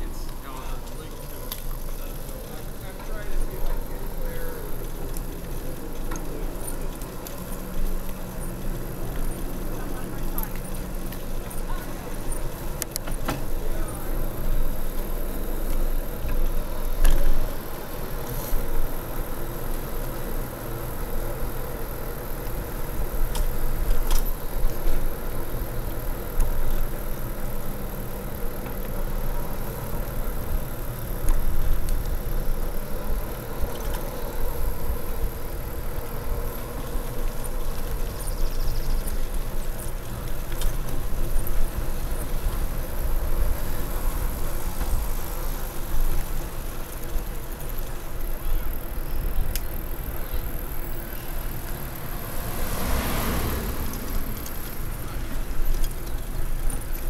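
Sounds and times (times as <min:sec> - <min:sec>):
bicycle clicks and rattles: 0:00.0 - 0:57.0
tyres rolling on pavement: 0:00.0 - 0:57.0.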